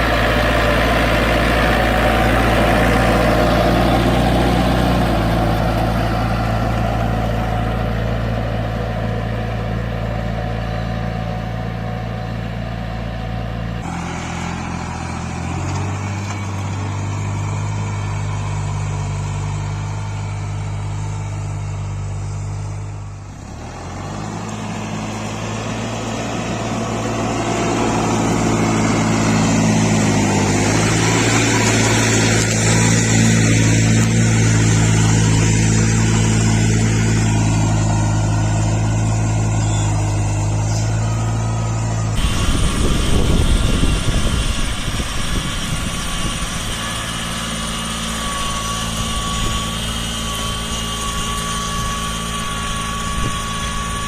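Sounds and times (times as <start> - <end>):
small tractor engines running: 0.0 - 54.0.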